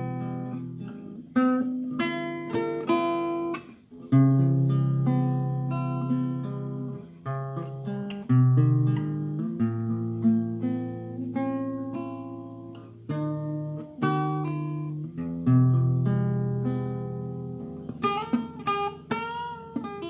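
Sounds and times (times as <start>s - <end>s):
acoustic guitar playing slowly: 0.0s - 20.0s.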